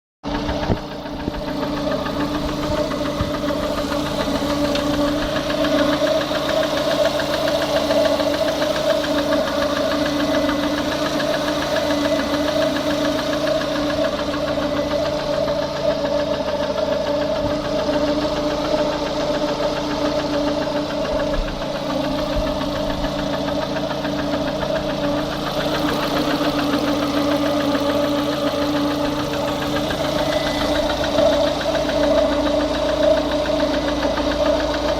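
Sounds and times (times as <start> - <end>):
car engine running with knock: 0.2 - 34.9.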